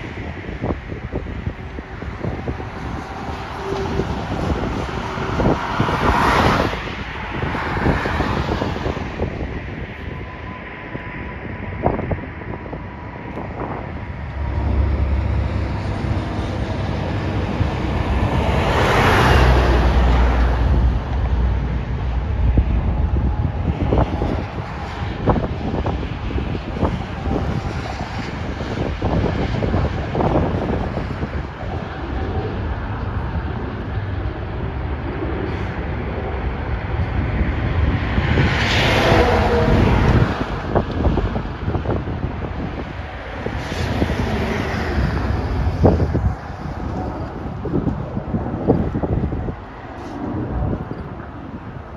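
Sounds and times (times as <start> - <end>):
vehicle passing: 0.0 - 10.3, 13.4 - 51.9
jet airliner engine noise: 0.0 - 51.9
wind rumble on microphone: 0.0 - 51.9.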